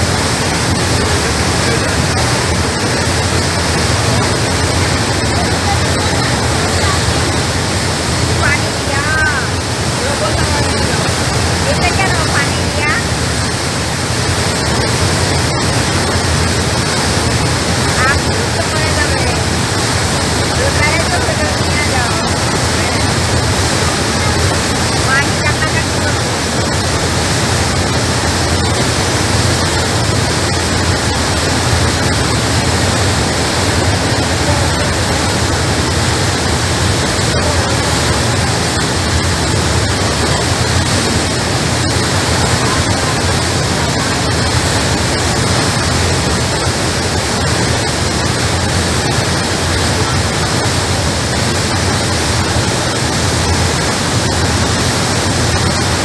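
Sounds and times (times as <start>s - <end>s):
boat wake water rushing: 0.0s - 56.0s
low steady drone: 0.0s - 56.0s.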